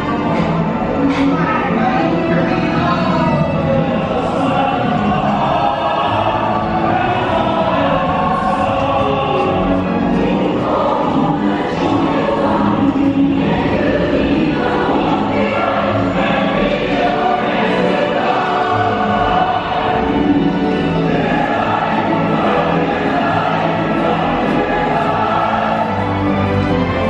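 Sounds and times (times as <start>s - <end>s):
choir singing: 0.0s - 27.0s
orchestra playing: 0.0s - 27.0s.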